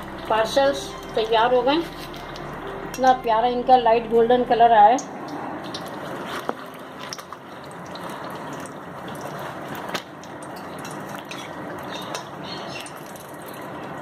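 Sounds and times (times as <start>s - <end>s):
food deep-frying in oil: 0.0s - 3.4s, 4.9s - 14.0s.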